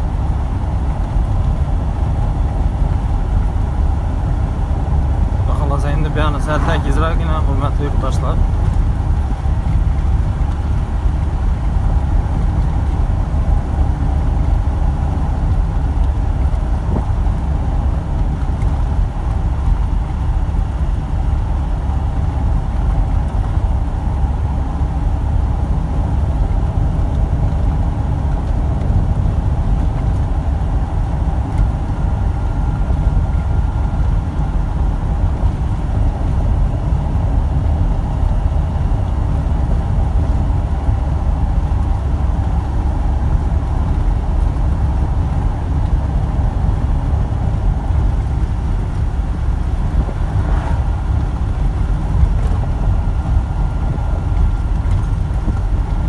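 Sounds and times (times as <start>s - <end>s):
truck engine drone: 0.0s - 56.0s
tyre road rumble: 0.0s - 56.0s.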